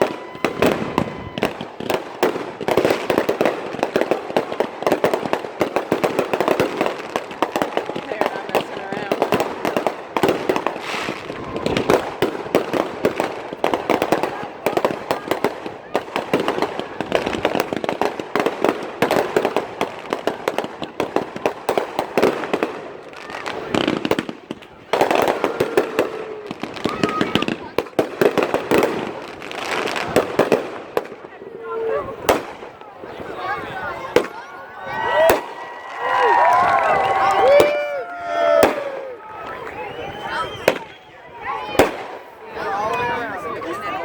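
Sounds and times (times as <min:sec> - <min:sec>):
firecrackers popping: 0:00.0 - 0:31.5, 0:32.1 - 0:44.0.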